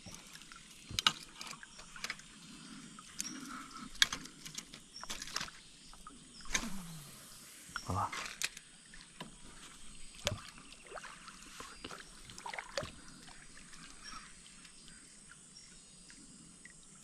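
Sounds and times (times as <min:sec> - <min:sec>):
faint water sounds: 0:00.0 - 0:17.0.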